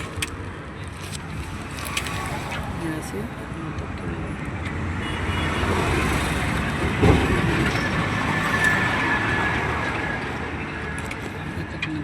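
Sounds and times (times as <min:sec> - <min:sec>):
heavy vehicle engine rumbling: 0:00.0 - 0:12.0.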